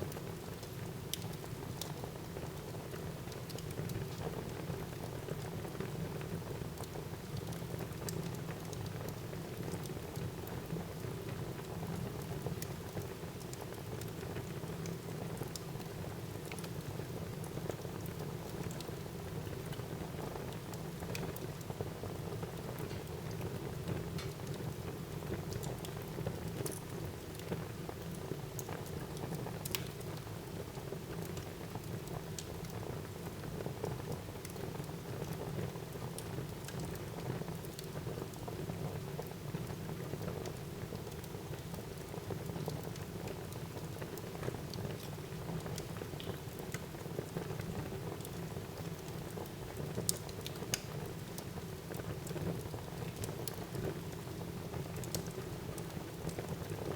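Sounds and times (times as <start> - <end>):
burning logs crackling and popping: 0.1 - 56.9.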